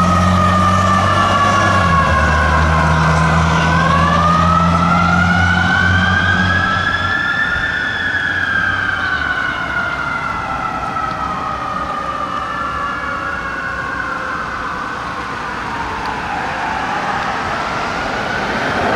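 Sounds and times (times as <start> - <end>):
electronic siren wailing: 0.0 - 18.9
fire truck engine rumble: 0.0 - 18.9.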